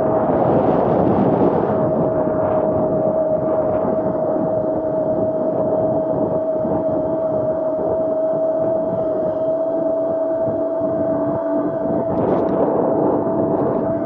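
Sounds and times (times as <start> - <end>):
electric motor whine: 0.0 - 14.0
wind rushing: 0.0 - 14.0.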